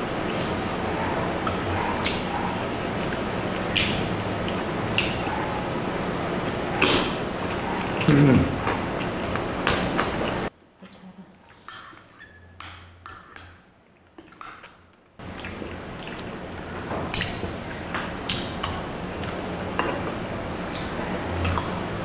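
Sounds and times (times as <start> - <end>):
steady room noise: 0.0 - 22.0.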